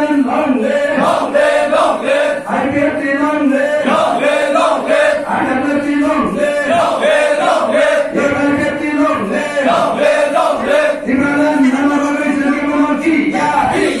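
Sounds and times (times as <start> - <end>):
crowd chanting slogans: 0.2 - 11.2, 13.4 - 14.0.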